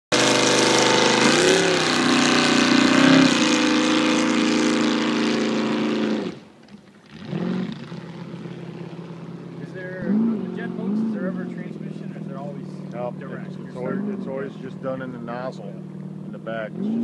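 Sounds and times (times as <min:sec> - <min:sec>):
jet boat engine running hard: 0:00.1 - 0:17.0.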